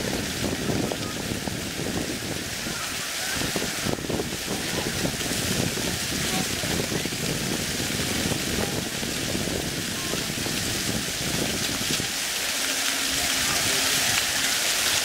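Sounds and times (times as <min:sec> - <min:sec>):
fountain jets spraying water: 0:00.0 - 0:15.0
murmur of crowd voices: 0:00.0 - 0:15.0.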